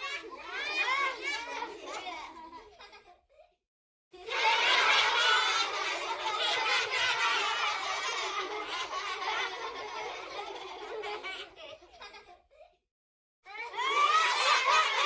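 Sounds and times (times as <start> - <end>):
children's crowd voices: 0.0 - 2.6, 4.2 - 12.2, 13.5 - 15.0
children laughing: 0.0 - 3.6, 4.2 - 12.8, 13.5 - 15.0.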